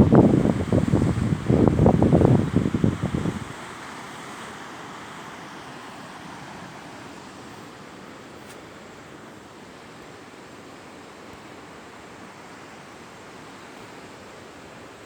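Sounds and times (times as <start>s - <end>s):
ocean surf: 0.0s - 15.0s
wind: 0.0s - 15.0s.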